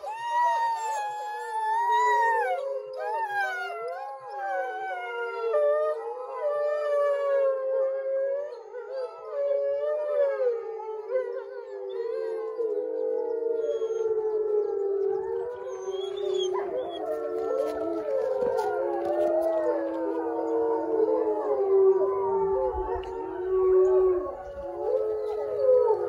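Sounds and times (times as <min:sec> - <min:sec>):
wolves howling in chorus: 0:00.0 - 0:26.0.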